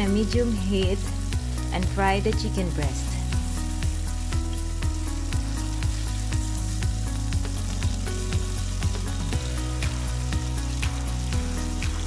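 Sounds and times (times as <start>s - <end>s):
background music with steady beat: 0.0s - 12.0s
chicken sizzling in frying pan: 0.0s - 12.0s.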